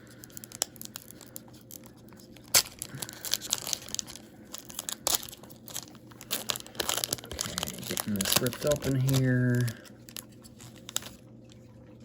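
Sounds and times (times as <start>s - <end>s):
plastic wrapper crinkling and tearing: 0.0s - 11.7s.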